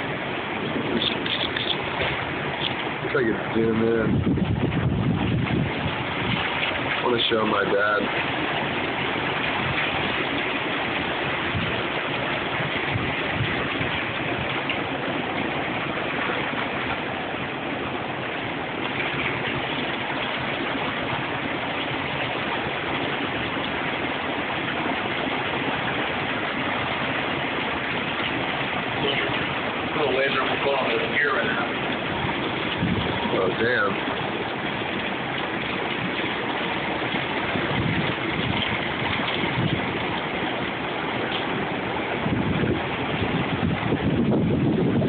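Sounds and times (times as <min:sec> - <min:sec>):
strong wind on microphone: 0:00.0 - 0:30.8, 0:31.4 - 0:45.0
heavy surf breaking: 0:00.0 - 0:45.0.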